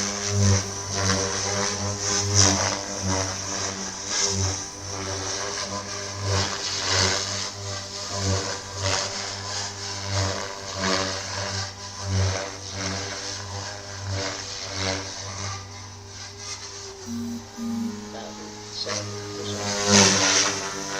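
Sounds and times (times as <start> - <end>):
rc helicopter rotor and motor: 0.0 - 20.9.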